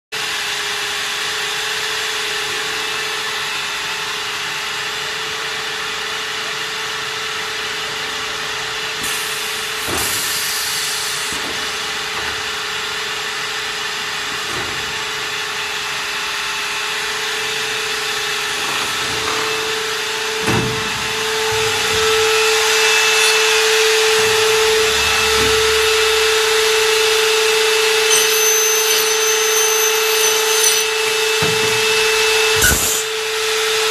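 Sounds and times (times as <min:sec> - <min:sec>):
machine hum and whir: 0:00.2 - 0:33.9.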